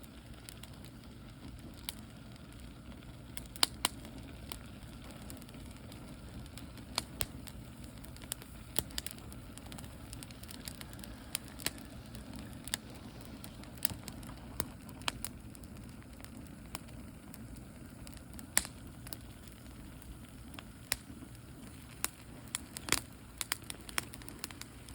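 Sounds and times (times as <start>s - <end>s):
wood fire crackling and popping: 0.0s - 24.9s.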